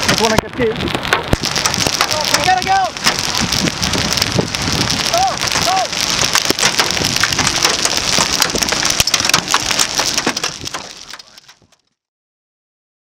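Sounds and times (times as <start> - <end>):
wind hiss: 0.0 - 11.4
heavy rain pelting a car: 0.0 - 11.8.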